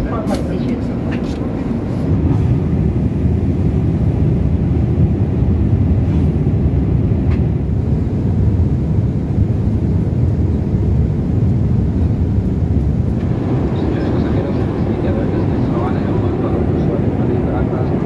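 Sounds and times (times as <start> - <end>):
airflow noise: 0.0 - 18.0
airliner cabin rumble: 0.0 - 18.0.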